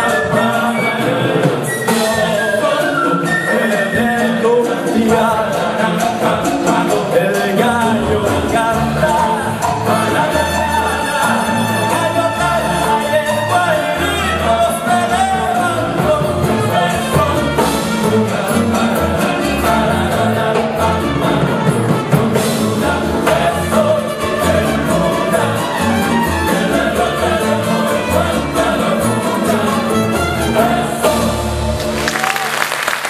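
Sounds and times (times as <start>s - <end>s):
male choir singing: 0.0s - 31.9s.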